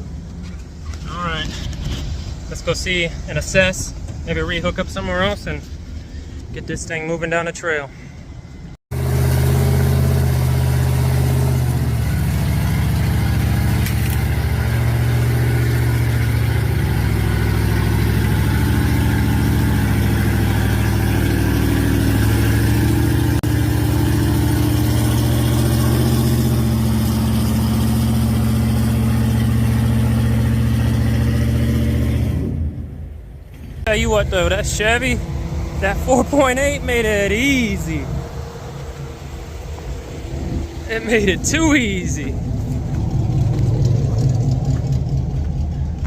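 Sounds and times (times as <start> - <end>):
truck engine running hard: 8.9 - 46.0.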